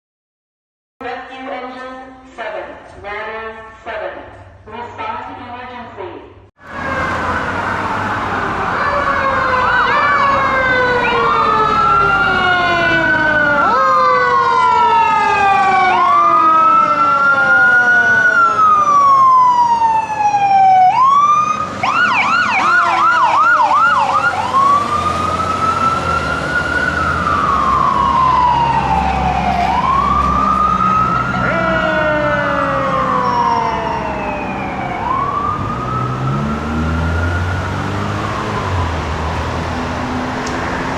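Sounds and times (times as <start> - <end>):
fire engine siren wailing: 6.6 - 40.9
truck engine rumble: 6.6 - 40.9.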